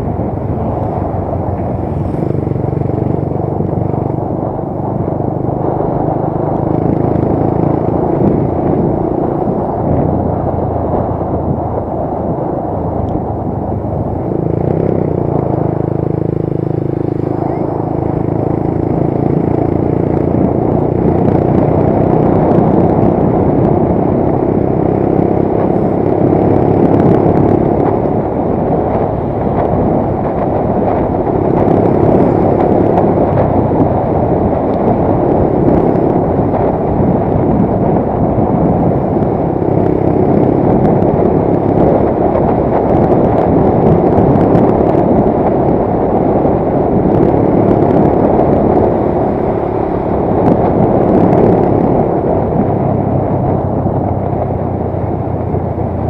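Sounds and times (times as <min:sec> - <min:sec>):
motorcycle engine cruising: 0:00.0 - 0:56.0
road noise rushing: 0:00.0 - 0:56.0.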